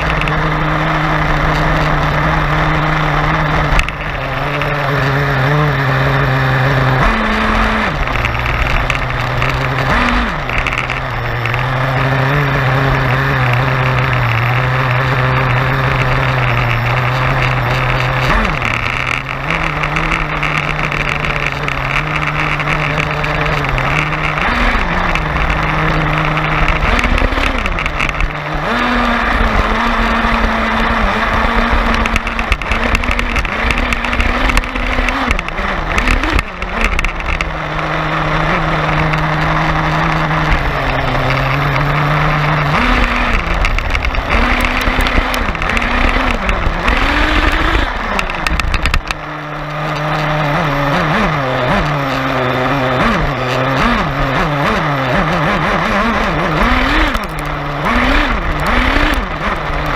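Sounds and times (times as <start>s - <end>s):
steady rushing noise: 0.0s - 59.9s
toy truck motor revving: 0.0s - 59.9s.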